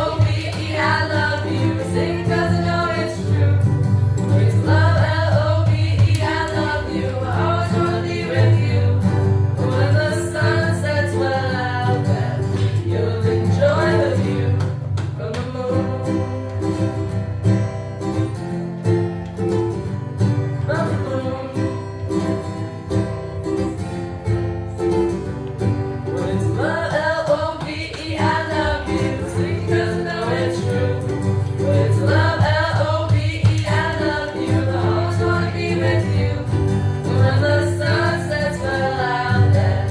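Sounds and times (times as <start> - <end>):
several people singing: 0.0 - 17.3, 20.7 - 22.6, 26.0 - 39.9
acoustic guitar: 0.0 - 39.9.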